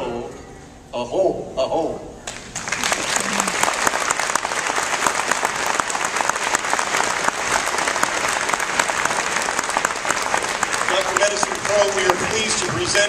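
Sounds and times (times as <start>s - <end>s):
audience applauding: 2.3s - 13.0s.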